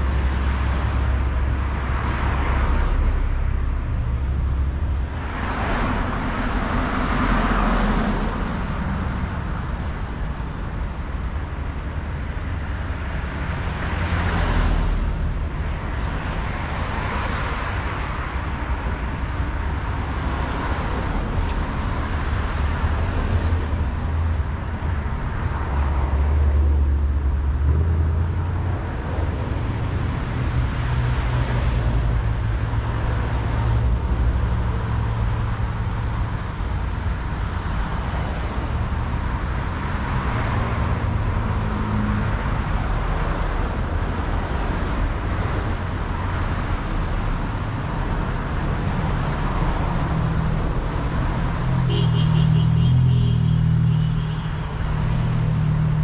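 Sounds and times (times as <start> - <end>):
street traffic passing: 0.0 - 56.0.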